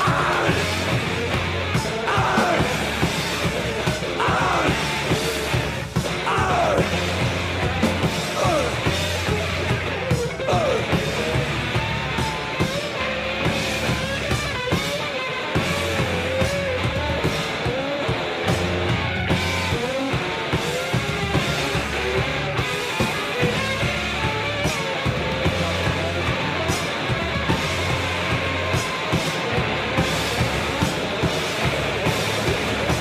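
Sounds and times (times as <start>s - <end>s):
instrumental punk rock band: 0.0s - 33.0s.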